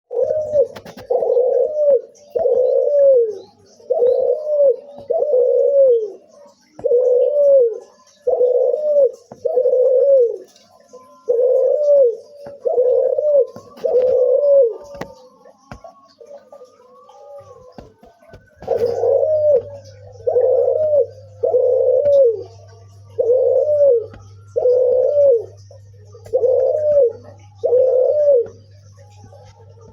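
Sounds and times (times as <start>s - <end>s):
dove cooing: 0.1s - 29.9s.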